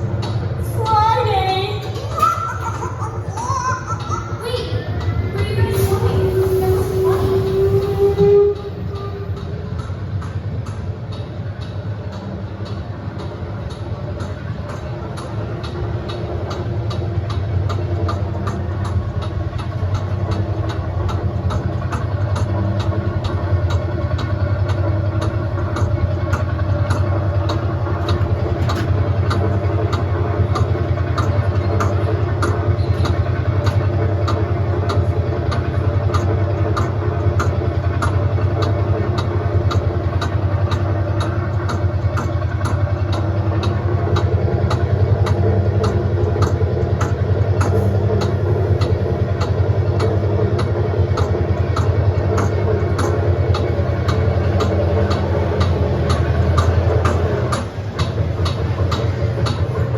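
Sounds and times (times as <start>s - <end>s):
regular clicking: 0.0s - 0.6s, 8.6s - 59.9s
tractor engine running: 0.0s - 59.9s.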